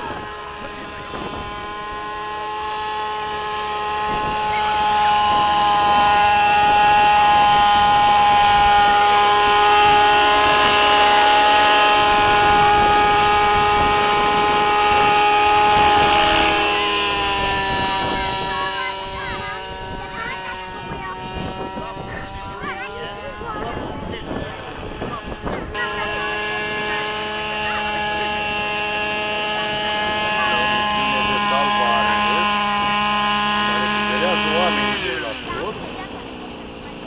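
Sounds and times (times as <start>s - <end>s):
model aircraft motor whine: 0.0s - 37.0s.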